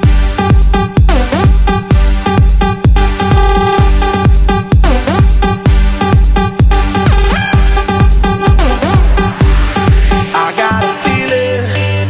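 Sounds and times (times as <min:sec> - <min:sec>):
steady kick drum: 0:00.0 - 0:10.4
electronic dance music: 0:00.0 - 0:12.0.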